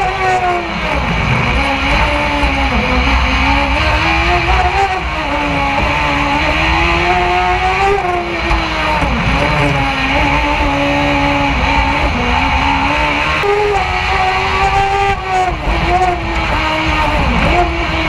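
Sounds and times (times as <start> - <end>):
race car engine at high revs: 0.0 - 18.0
wind and road noise: 0.0 - 18.0.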